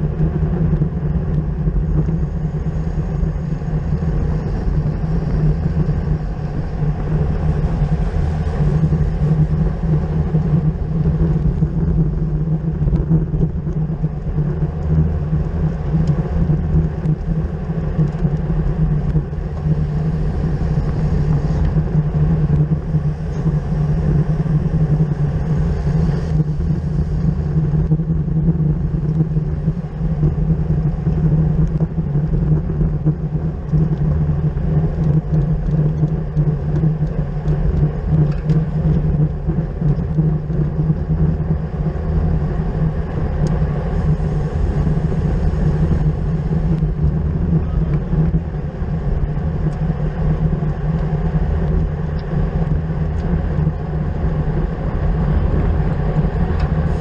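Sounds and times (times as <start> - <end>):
bicycle tyre rumble: 0.0 - 57.0
wind rush on microphone: 0.0 - 57.0.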